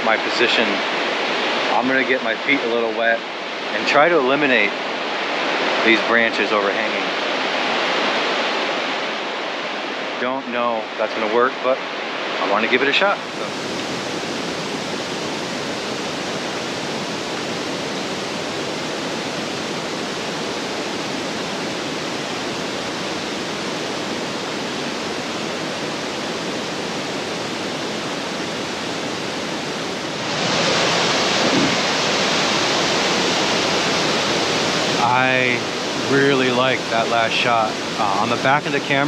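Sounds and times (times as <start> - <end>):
river rushing over waterfall: 2.8 - 9.1, 12.1 - 39.0.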